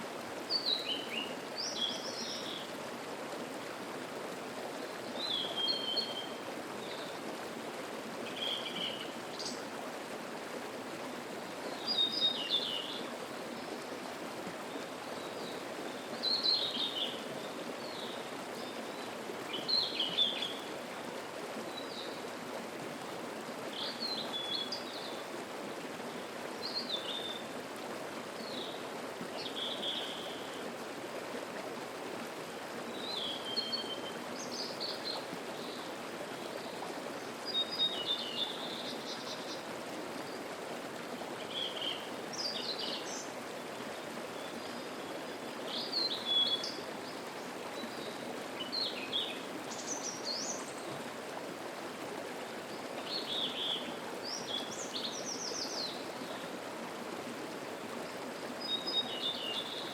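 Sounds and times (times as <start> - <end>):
stream murmuring: 0.0 - 59.9.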